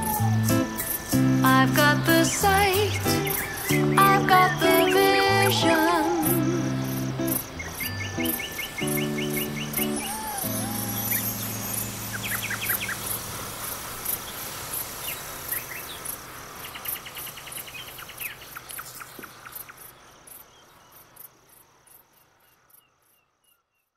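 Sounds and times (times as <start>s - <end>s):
bird chirps and trills: 0.0s - 21.0s
crickets chirping: 0.0s - 23.9s.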